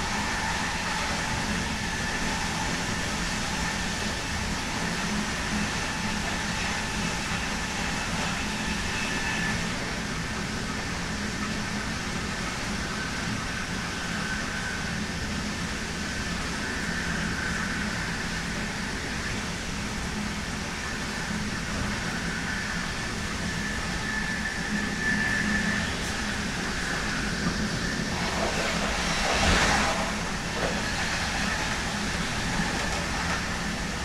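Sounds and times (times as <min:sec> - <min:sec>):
thin inverter whine: 0:00.0 - 0:34.0
train running noise: 0:00.0 - 0:34.0.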